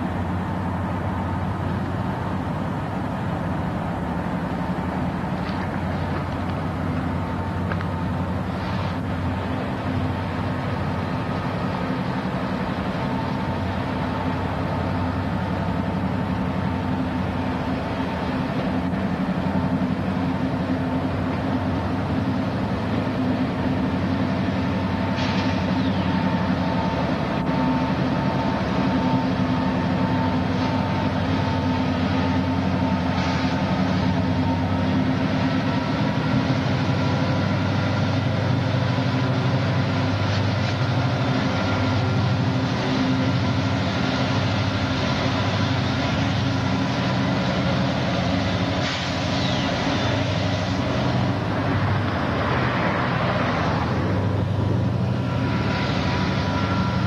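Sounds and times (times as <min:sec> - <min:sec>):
diesel locomotive engines running: 0:00.0 - 0:57.0
faint steady whine: 0:00.0 - 0:57.0.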